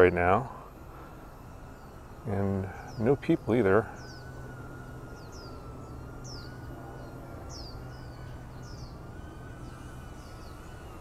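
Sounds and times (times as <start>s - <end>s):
birds chirping: 0.0s - 11.0s
drone motors whining: 0.0s - 11.0s.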